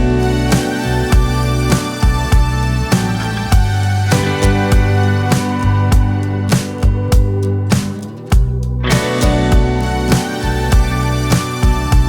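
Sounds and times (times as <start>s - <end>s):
background music with guitar and beat: 0.0s - 12.0s.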